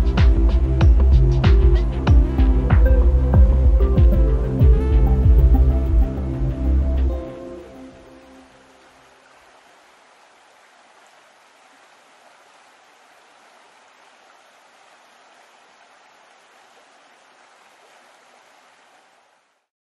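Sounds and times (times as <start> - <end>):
rushing water: 0.0 - 19.7.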